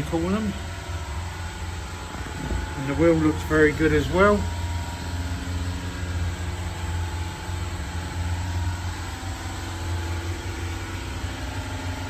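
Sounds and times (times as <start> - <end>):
machinery drone: 0.0 - 12.0.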